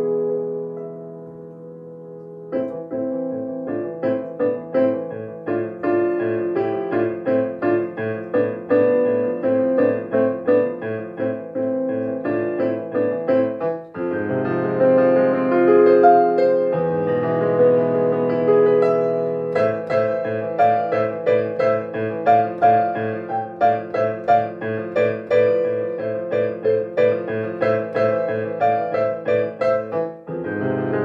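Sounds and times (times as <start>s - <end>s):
solo piano piece: 0.0s - 31.0s.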